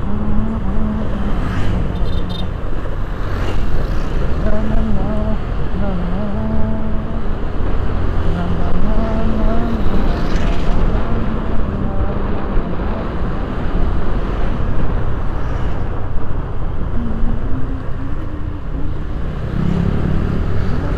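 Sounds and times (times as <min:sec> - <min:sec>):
engine rumble: 0:00.0 - 0:20.9.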